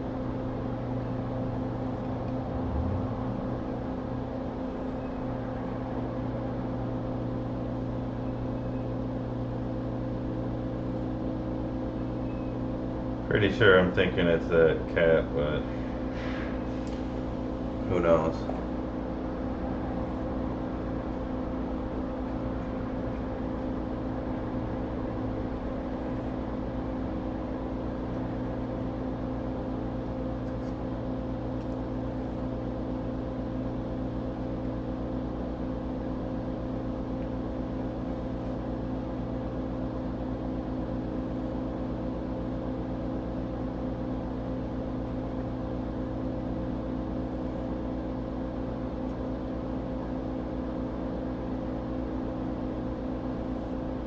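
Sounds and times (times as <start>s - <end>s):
workbench equipment humming: 0.0s - 54.0s.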